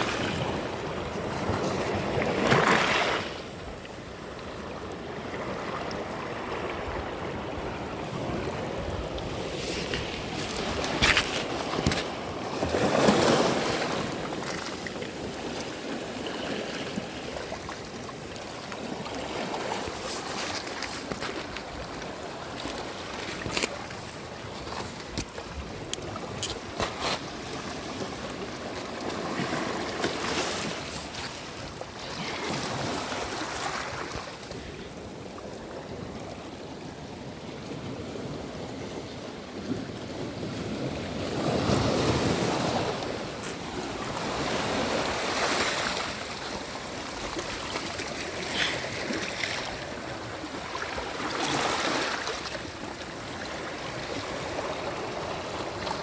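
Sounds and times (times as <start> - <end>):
sea waves washing onto beach: 0.0 - 36.9, 37.5 - 56.0.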